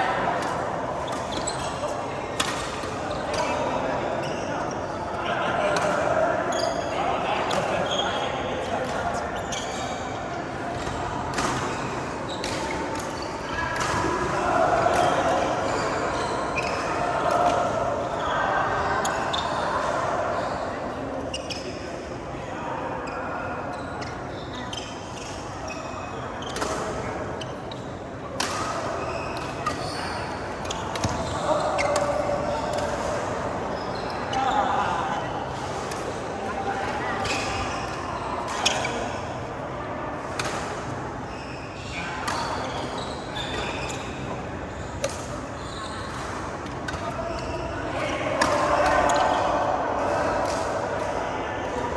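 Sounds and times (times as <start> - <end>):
sports hall noise: 0.0 - 51.9.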